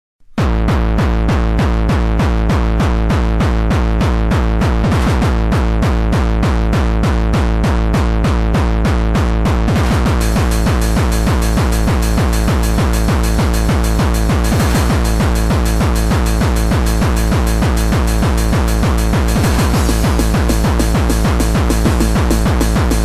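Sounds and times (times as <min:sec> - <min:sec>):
electronic dance music: 0:00.4 - 0:23.0.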